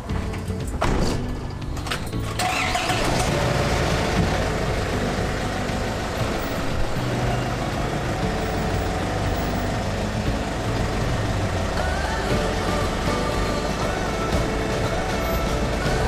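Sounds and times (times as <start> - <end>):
van engine running: 0.0 - 16.0.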